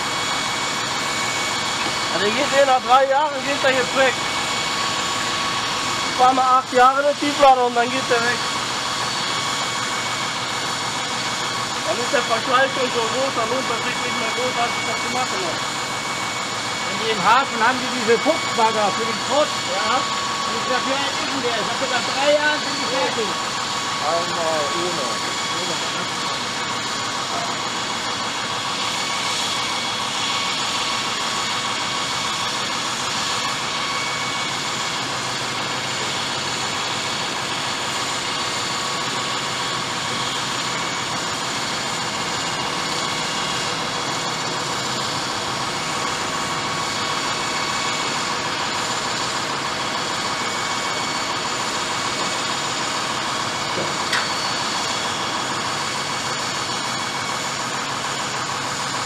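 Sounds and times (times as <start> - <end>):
concrete saw cutting: 0.0 - 59.0.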